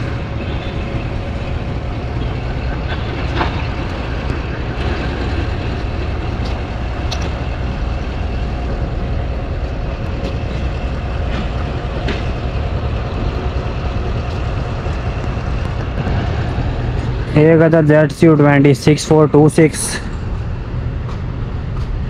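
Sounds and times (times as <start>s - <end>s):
diesel locomotive engine rumbling: 0.0s - 22.0s.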